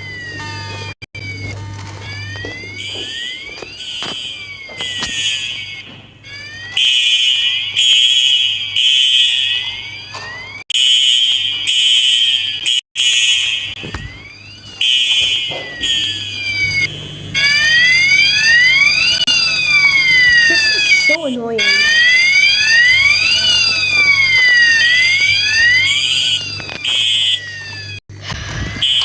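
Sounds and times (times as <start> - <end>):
fire alarm horn blasts: 0.0 - 29.0
sweeping alarm tones: 0.0 - 29.0.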